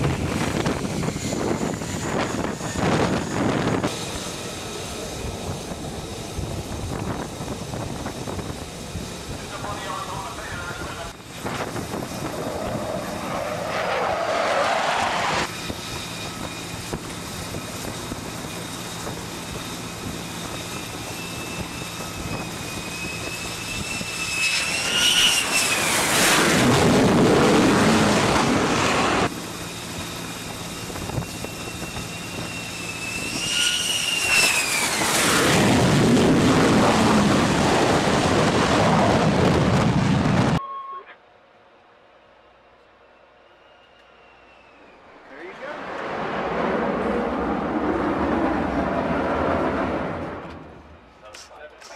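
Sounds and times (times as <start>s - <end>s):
jet engine rush: 0.0s - 40.6s, 43.2s - 51.9s
jet passing with rising whine: 0.0s - 40.6s, 41.5s - 51.7s.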